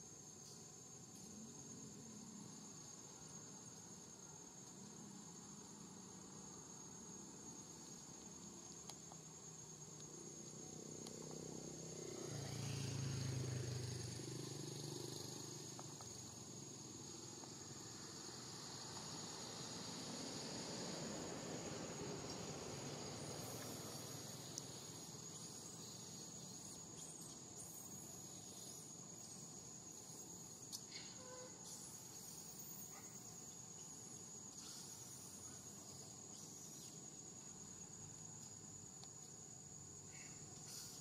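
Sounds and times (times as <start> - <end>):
high-pitched insect trill: 0.0 - 41.0.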